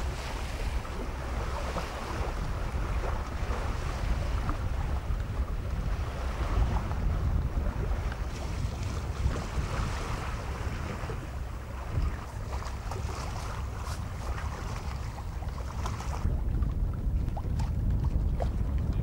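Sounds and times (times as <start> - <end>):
sea water washing past boat: 0.0 - 19.0
wind rumbling on microphone: 0.0 - 19.0.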